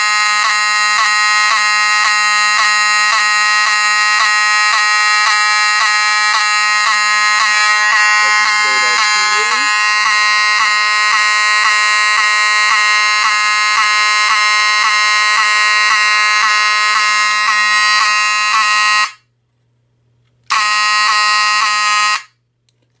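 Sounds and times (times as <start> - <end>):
fire alarm horn: 0.0 - 19.3, 20.5 - 22.4.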